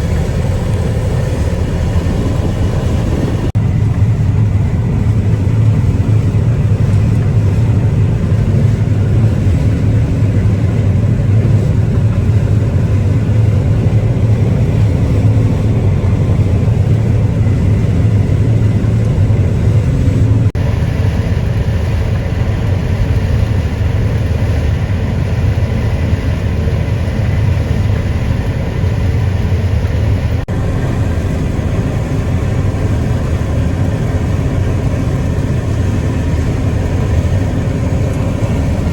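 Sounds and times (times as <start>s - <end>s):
farm machinery engine drone: 0.0s - 38.9s.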